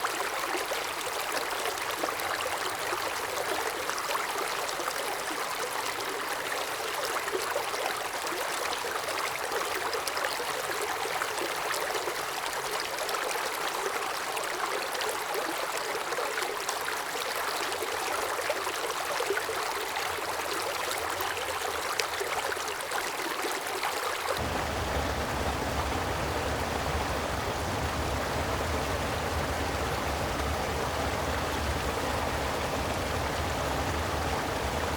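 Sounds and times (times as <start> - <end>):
creek water rushing over rocks: 0.0 - 34.9.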